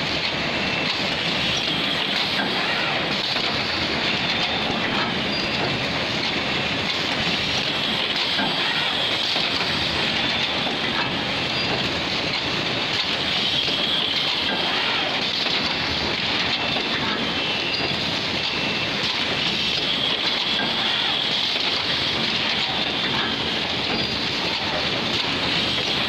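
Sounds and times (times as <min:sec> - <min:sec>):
sewing machines clattering: 0:00.8 - 0:26.0.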